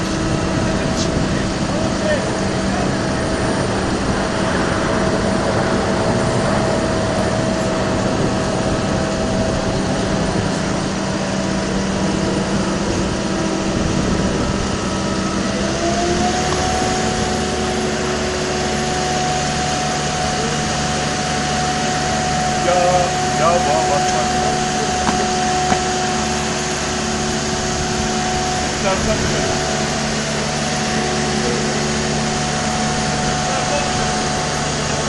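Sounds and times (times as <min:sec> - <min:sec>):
lift engine humming: 0:00.0 - 0:35.0.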